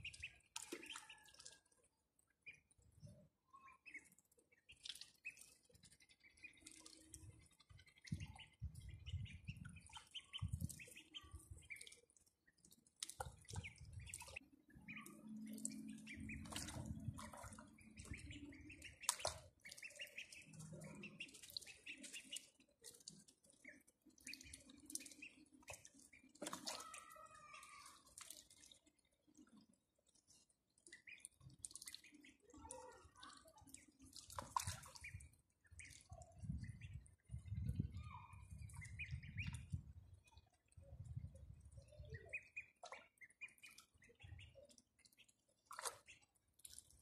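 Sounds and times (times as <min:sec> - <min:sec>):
ducklings peeping: 0:00.0 - 0:01.7, 0:03.6 - 0:28.8, 0:30.8 - 0:33.0, 0:33.6 - 0:40.4, 0:41.8 - 0:46.3
ducklings dabbling in water: 0:00.0 - 0:47.0.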